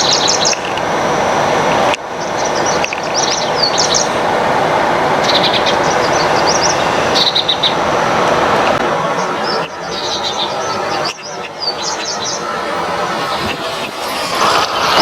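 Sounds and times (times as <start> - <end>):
small birds chirping: 0.0 - 0.8, 1.7 - 4.3, 5.2 - 15.0
steady rushing noise: 0.0 - 15.0.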